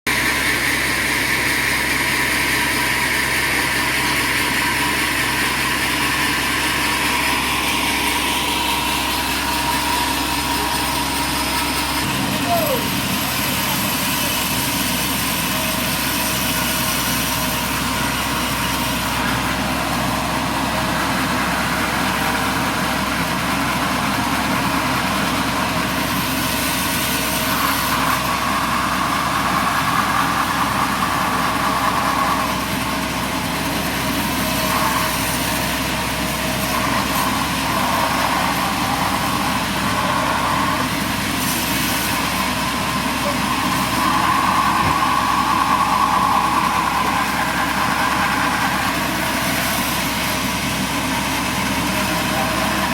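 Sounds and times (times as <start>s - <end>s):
heavy machinery running: 0.1s - 52.9s
mid-pitched whine: 0.1s - 52.9s.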